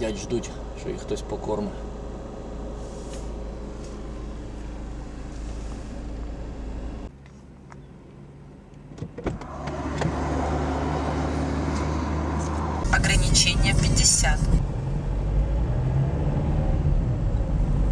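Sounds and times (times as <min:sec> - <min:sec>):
diesel car engine rumble: 0:00.0 - 0:17.9.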